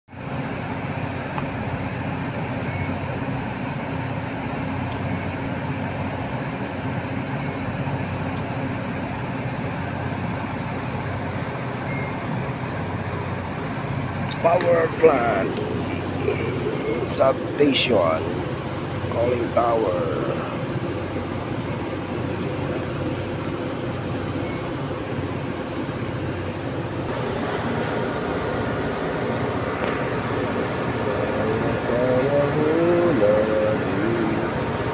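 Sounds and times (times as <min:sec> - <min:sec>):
fan rush: 0:00.1 - 0:34.9
heavy machinery drone: 0:00.1 - 0:34.9
low electrical hum: 0:00.1 - 0:34.9.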